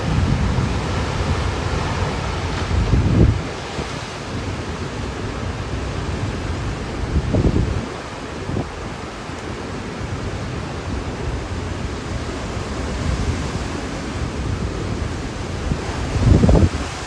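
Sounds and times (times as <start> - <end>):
strong wind gusting on microphone: 0.0 - 17.0.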